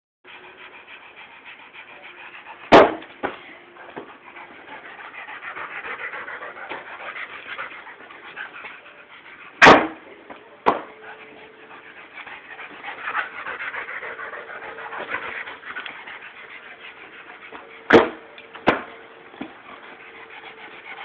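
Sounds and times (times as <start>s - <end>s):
dog panting: 0.3s - 10.1s, 10.7s - 21.0s.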